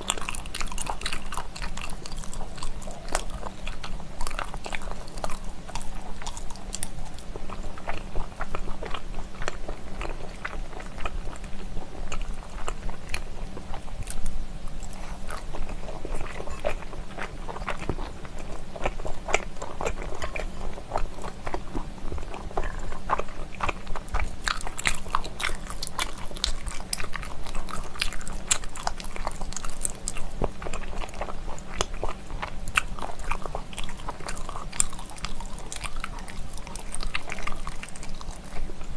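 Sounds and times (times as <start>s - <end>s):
close chewing with mouth clicks: 0.0s - 38.9s.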